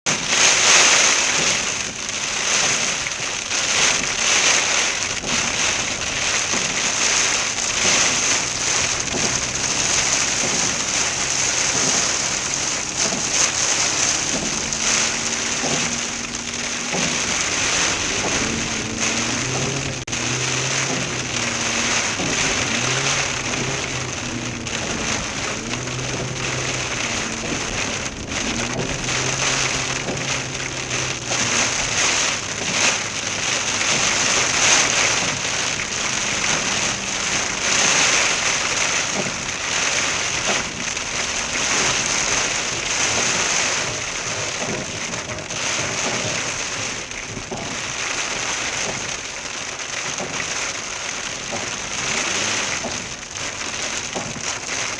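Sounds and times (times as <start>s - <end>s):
hail pelting a car: 0.0s - 54.9s.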